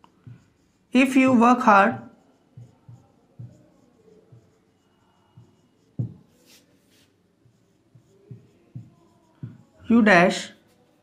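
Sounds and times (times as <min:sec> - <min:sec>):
marker writing on whiteboard: 0:00.0 - 0:11.0.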